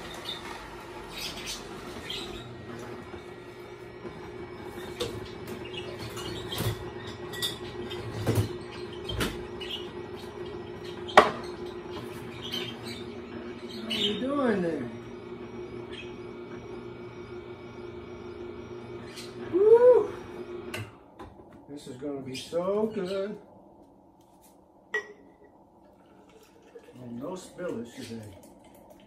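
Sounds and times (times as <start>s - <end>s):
juicer motor hum: 0.0s - 21.6s, 25.9s - 29.0s.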